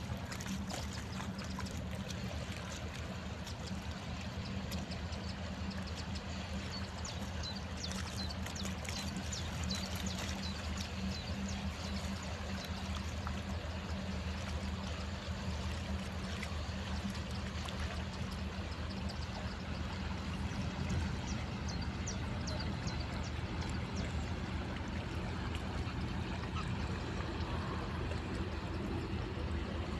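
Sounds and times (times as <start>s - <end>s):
ship engines droning: 0.0s - 29.9s
small water splashes: 0.0s - 29.9s
water rushing: 0.0s - 29.9s.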